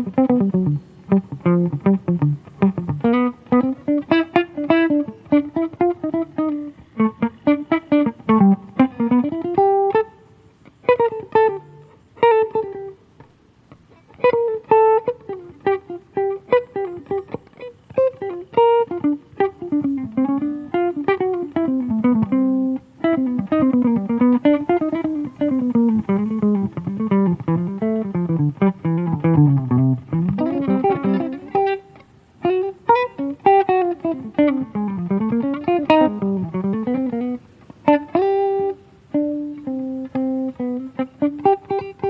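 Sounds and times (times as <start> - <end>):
acoustic guitar improvising: 0.0 - 42.0.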